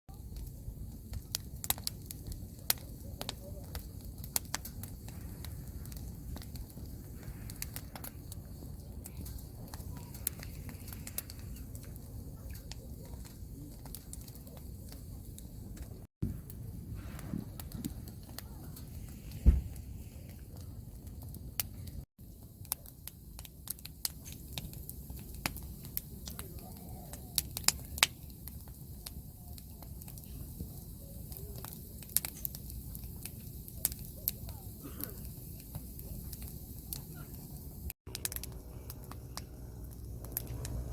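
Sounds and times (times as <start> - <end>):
low steady rumble: 0.1 - 28.0, 34.5 - 40.9
fire crackling and popping: 0.1 - 40.9.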